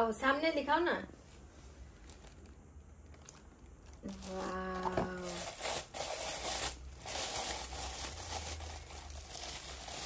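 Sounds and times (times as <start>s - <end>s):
plastic bag crinkling: 1.3s - 10.0s.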